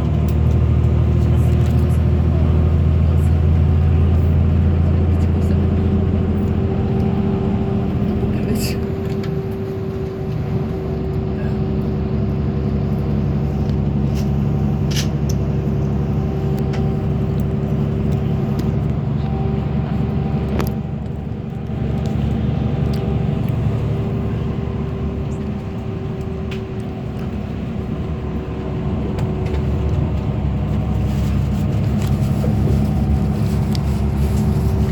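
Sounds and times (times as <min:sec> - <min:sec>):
bus engine and road noise: 0:00.0 - 0:34.9.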